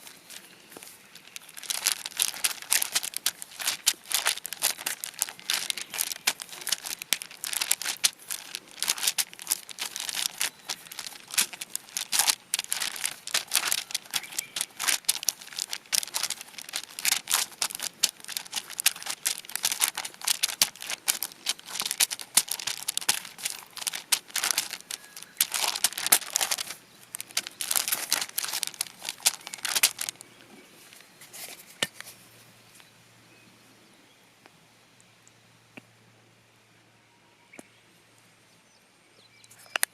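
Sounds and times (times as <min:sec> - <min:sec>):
crinkling and crumpling by hand: 0:00.0 - 0:32.8.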